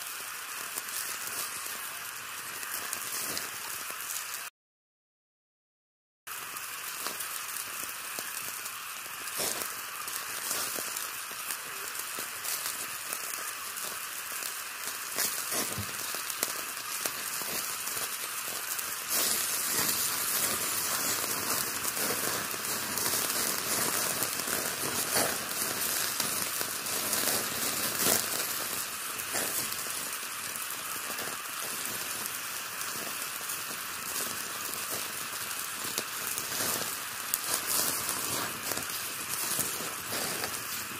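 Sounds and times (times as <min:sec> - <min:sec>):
crackles and pops: 0:00.0 - 0:04.5, 0:06.3 - 0:40.9
meat sizzling over charcoal: 0:00.0 - 0:04.5, 0:06.3 - 0:40.9.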